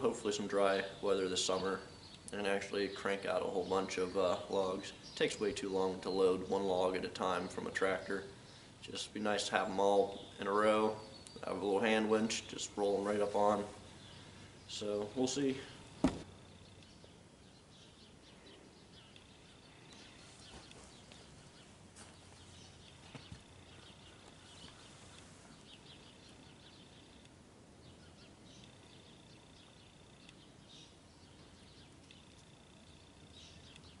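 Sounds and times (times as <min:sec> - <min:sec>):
birds chirping and trilling: 0:00.0 - 0:34.0.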